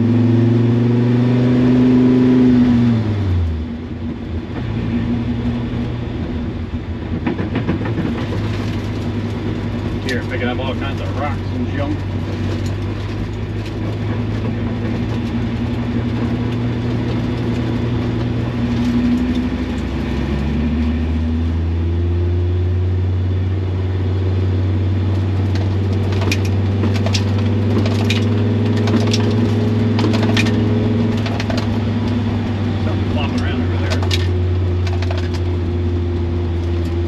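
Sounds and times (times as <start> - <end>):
race car engine running: 0.0 - 37.0.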